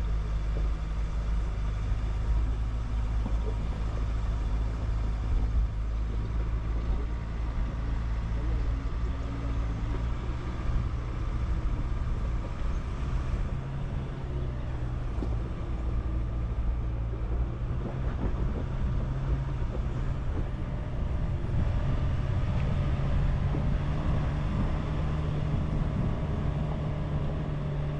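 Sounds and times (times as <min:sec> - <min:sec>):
diesel engine running: 0:00.0 - 0:27.9
wind and road noise: 0:00.0 - 0:27.9.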